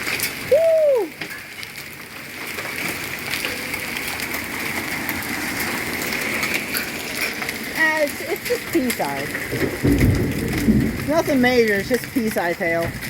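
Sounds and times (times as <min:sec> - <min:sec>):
hailstones ticking: 0:00.0 - 0:13.0
rain hissing: 0:00.0 - 0:13.0.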